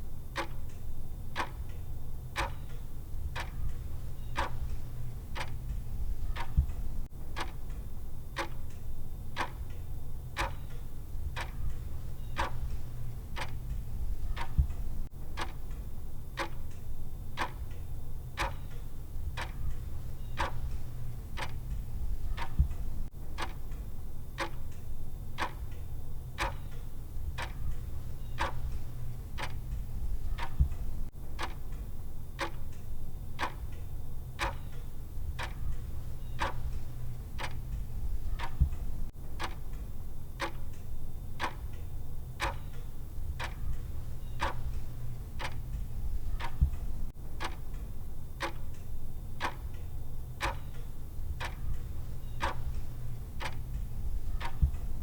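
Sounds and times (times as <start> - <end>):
low steady hum: 0.0 - 55.0
clock ticking: 0.3 - 55.0.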